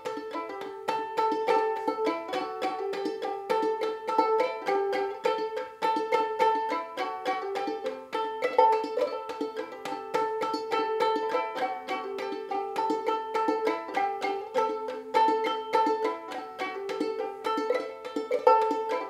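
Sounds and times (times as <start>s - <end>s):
banjo ukulele plucked notes: 0.0s - 19.0s.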